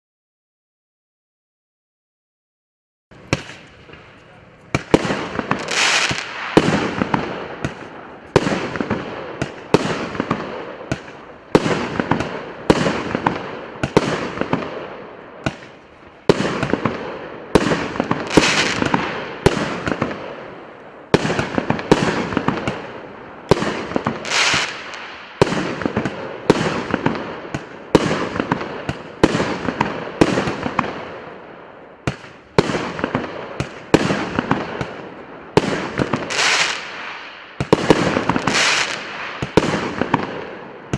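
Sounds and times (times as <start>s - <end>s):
firework shots with crackle: 3.2s - 40.9s.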